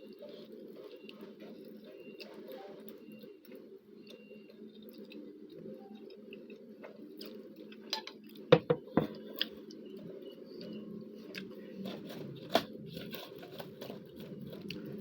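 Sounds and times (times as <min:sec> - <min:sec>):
low background hum: 0:00.0 - 0:15.0
quiet chewing: 0:00.0 - 0:15.0.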